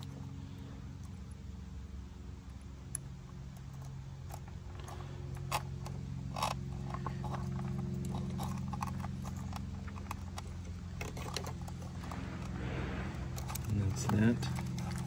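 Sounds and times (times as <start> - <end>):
connectors clicking and rattling: 0.0 - 1.4, 2.4 - 15.0
low machine hum: 0.0 - 15.0.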